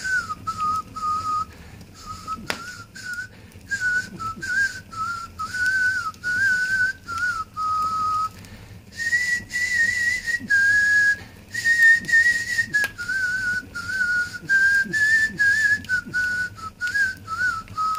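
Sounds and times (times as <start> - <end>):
person whistling a tune: 0.0 - 8.4, 9.0 - 17.9.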